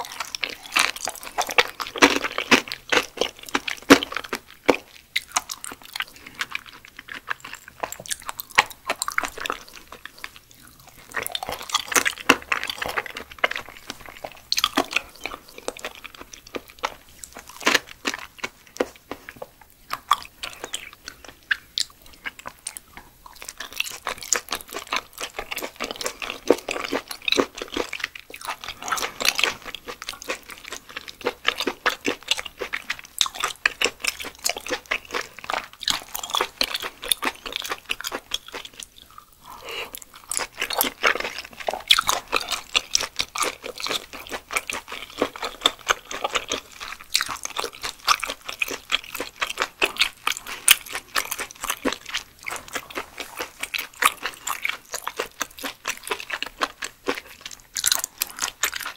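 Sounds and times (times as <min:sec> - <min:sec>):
wet chewing with smacks: 0:00.0 - 0:58.9.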